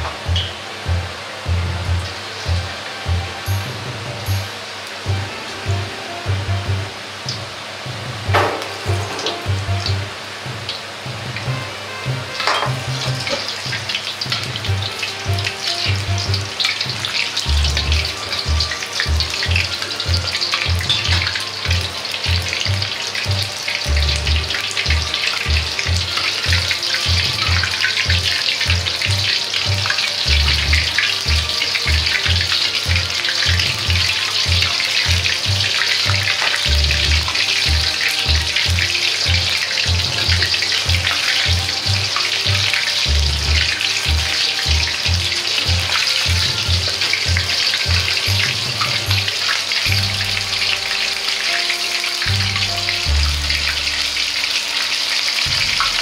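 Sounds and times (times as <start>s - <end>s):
background music with low beat: 0.0s - 51.3s, 52.2s - 54.4s, 55.4s - 56.0s
food sizzling in hot oil: 0.0s - 56.0s.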